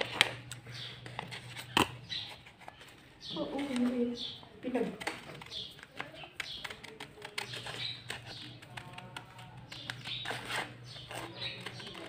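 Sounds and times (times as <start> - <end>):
scissors cutting paper: 0.0 - 12.0.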